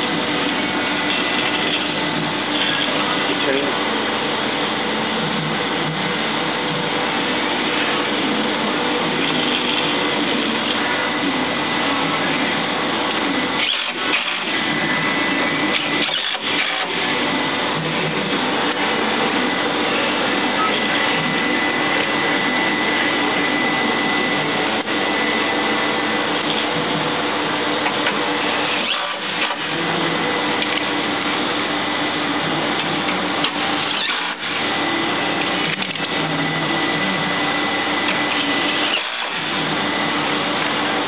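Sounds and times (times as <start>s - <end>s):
loud mechanical whirring: 0.0s - 41.0s
thin high whine: 0.0s - 41.0s.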